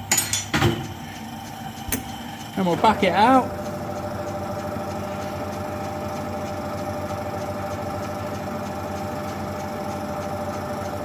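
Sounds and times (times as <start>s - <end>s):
metal lathe humming: 0.0s - 11.0s
faint regular ticking: 1.0s - 11.0s.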